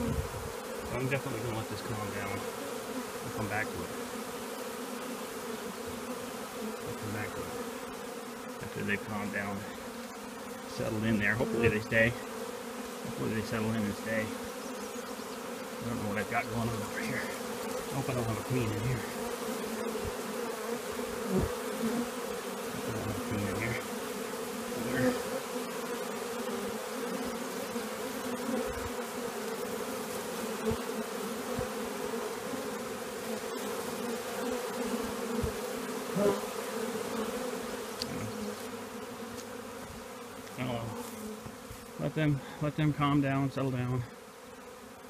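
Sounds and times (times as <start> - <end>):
bee swarm buzzing: 0.0 - 45.0.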